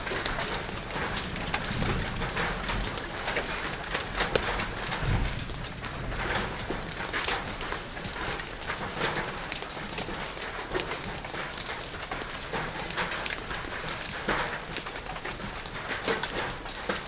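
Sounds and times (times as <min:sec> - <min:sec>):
hailstones knocking on hard surfaces: 0:00.0 - 0:17.0
rain-like hiss: 0:00.0 - 0:17.0.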